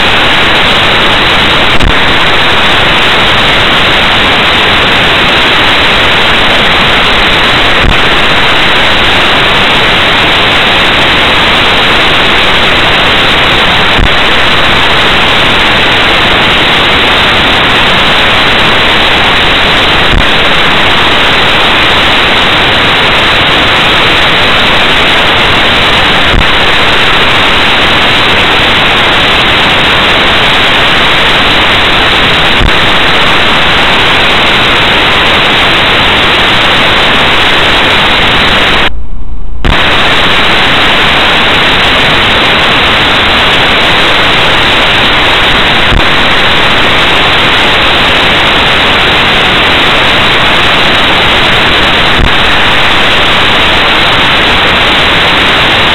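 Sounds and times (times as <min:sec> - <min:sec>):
loud static hiss: 0:00.0 - 0:55.9.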